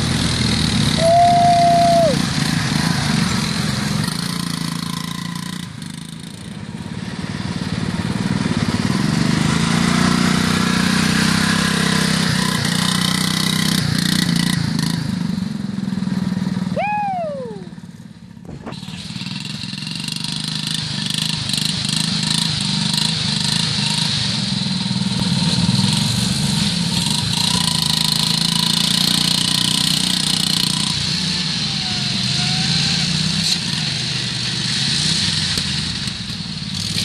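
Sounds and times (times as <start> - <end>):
riding lawn mower engines: 0.0 - 37.0.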